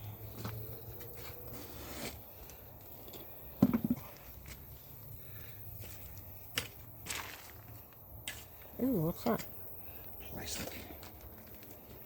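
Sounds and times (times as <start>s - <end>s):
soil and plants rustling: 0.0s - 12.0s.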